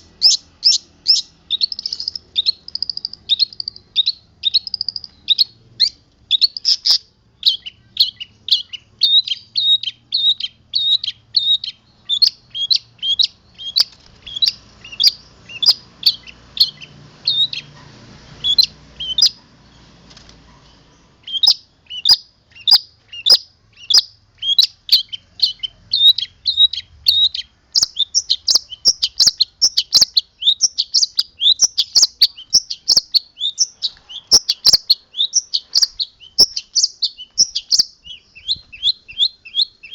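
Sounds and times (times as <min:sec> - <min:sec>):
shrike chirping song: 0:00.0 - 0:19.9, 0:20.8 - 0:39.9.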